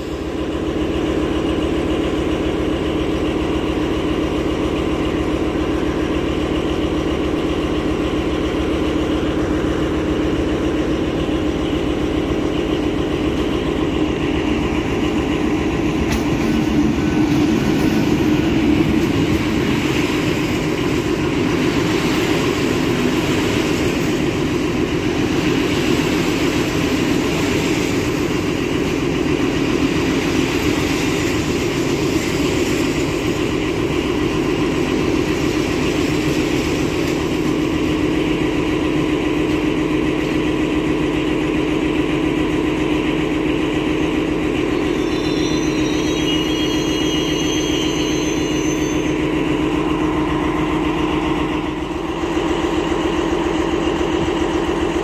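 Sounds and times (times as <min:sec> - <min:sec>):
train coaches rolling: 0:00.0 - 0:55.0
train machinery hum: 0:00.0 - 0:55.0.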